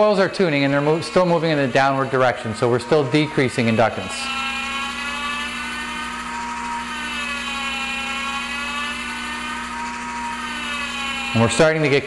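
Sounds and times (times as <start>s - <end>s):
tuning motor whirring: 0.0s - 12.0s.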